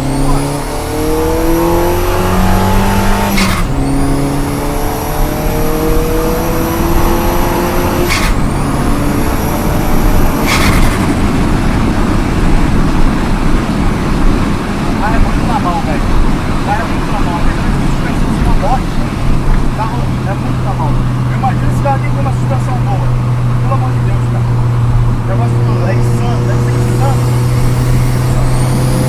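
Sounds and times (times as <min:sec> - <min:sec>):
car engine accelerating: 0:00.0 - 0:29.0
road and wind noise: 0:00.0 - 0:29.0.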